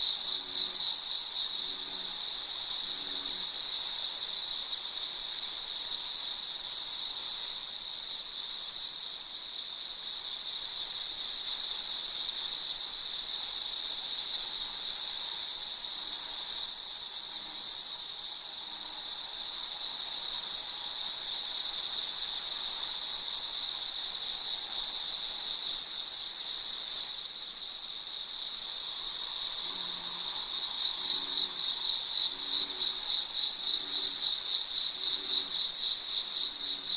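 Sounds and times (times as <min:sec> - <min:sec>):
higher insect call: 0:00.0 - 0:36.9
insects chirping chorus: 0:00.0 - 0:36.9.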